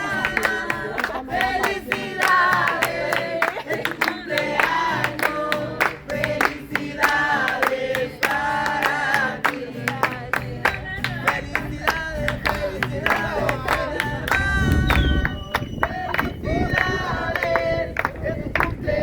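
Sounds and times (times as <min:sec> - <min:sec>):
hands clapping: 0:00.0 - 0:18.9
group of people singing: 0:00.0 - 0:19.0
guitar: 0:00.0 - 0:19.0.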